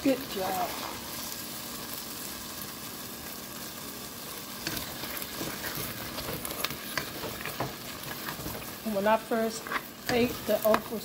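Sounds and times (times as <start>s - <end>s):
steady kitchen hiss: 0.0s - 11.0s.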